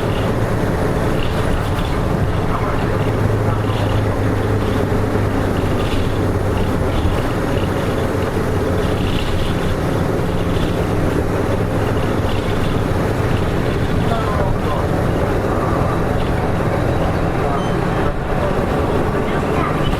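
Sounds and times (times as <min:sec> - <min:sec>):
bus diesel engine running: 0:00.0 - 0:19.9.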